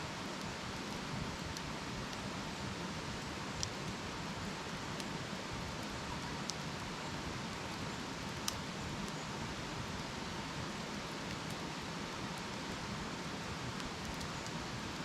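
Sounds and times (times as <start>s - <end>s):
campfire burning and crackling: 0.0s - 15.0s.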